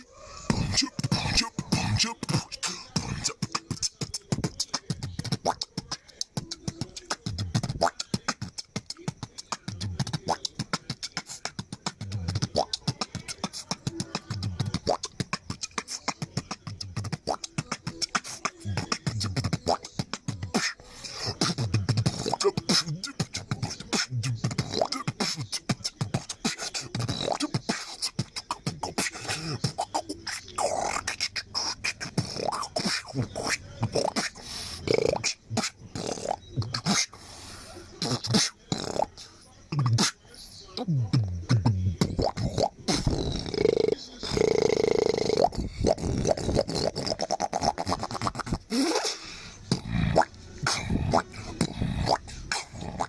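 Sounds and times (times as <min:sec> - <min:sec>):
beatboxed kick-drum thumps: 0:00.0 - 0:37.1, 0:38.0 - 0:39.1, 0:39.7 - 0:40.2, 0:40.8 - 0:48.8, 0:49.7 - 0:53.0
beatboxing clicks: 0:00.0 - 0:37.2, 0:38.0 - 0:40.2, 0:40.8 - 0:53.0.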